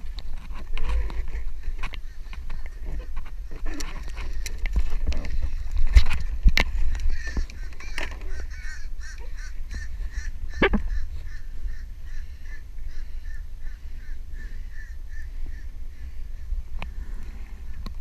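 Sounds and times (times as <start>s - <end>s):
wind rumbling on microphone: 0.0s - 18.0s
crows calling: 0.9s - 17.8s.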